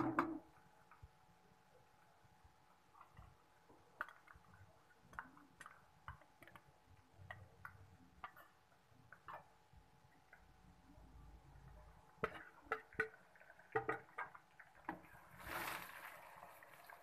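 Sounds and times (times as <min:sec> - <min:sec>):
oil frying pops and crackles: 0:00.2 - 0:17.0.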